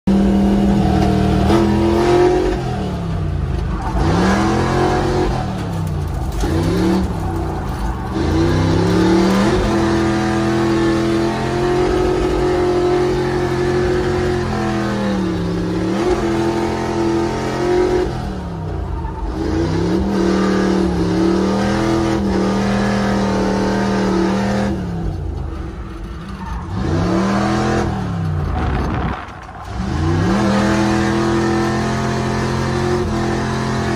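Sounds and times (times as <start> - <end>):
truck engine revving: 0.1 - 33.9.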